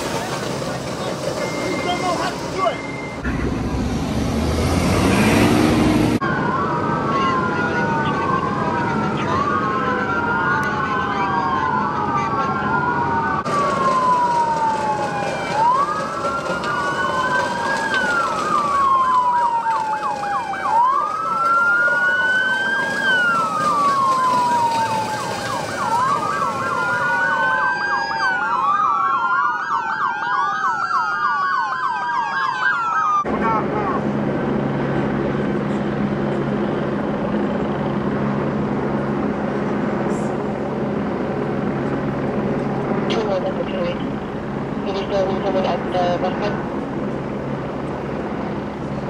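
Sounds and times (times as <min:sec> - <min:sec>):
police sirens wailing: 0:00.0 - 0:49.0
traffic rumble: 0:00.0 - 0:49.0.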